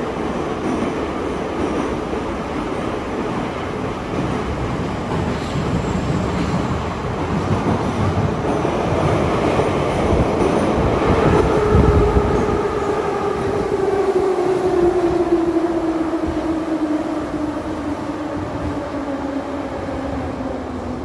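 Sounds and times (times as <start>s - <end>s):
metro train wheels rumbling: 0.0s - 21.0s.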